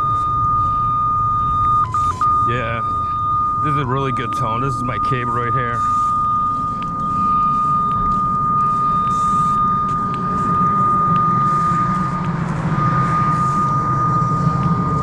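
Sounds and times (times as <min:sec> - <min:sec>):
low rumble: 0:00.0 - 0:15.0
steady high electronic tone: 0:00.0 - 0:15.0.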